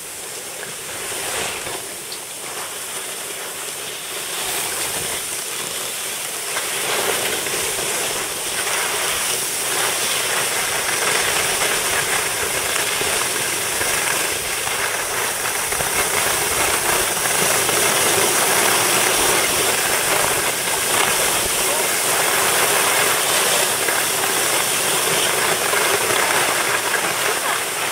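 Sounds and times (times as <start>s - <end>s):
skis hissing over snow: 0.0s - 27.9s.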